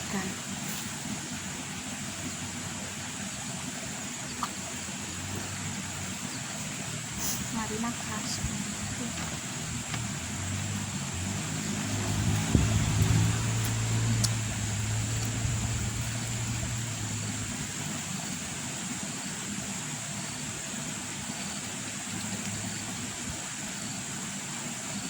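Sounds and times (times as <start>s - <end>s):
motor engine humming: 0.0s - 25.0s
steady rushing hiss: 0.0s - 25.0s.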